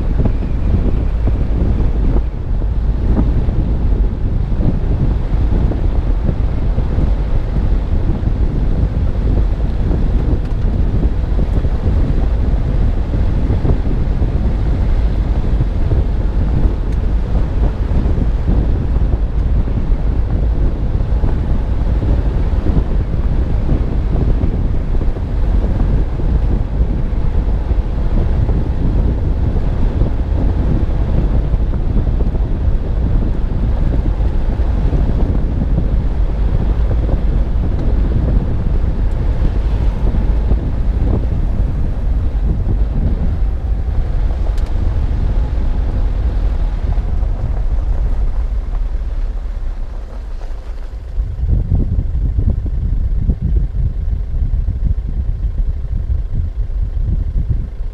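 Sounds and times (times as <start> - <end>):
road and tyre rumble: 0.0 - 57.9
wind buffeting microphone: 0.0 - 57.9.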